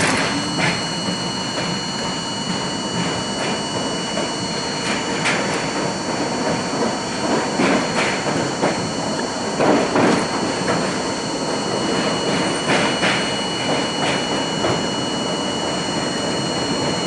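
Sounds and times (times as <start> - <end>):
subway car rumble and rattle: 0.0 - 17.0.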